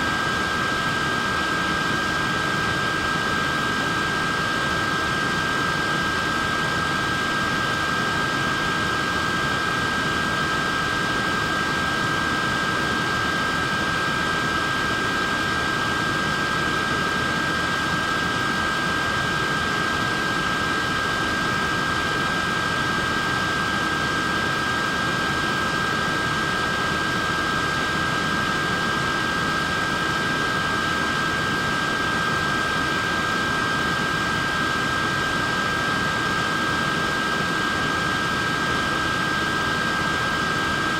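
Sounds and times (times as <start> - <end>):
fan motor whine: 0.0 - 40.9.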